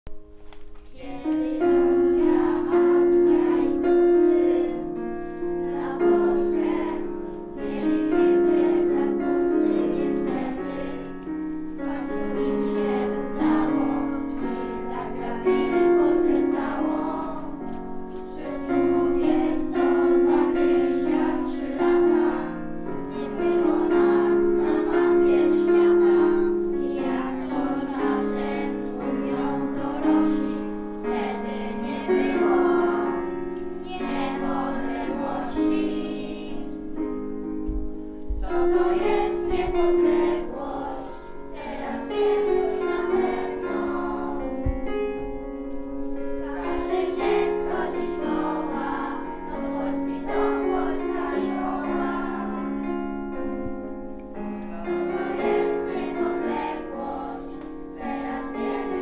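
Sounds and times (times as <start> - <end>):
children's choir singing: 0.6 - 59.0.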